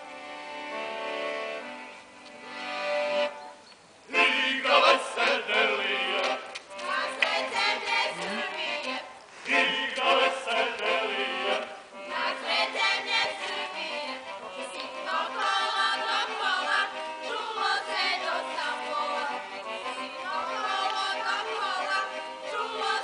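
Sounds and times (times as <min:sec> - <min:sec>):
held instrumental notes: 0:00.0 - 0:23.0
group of voices singing: 0:04.1 - 0:23.0.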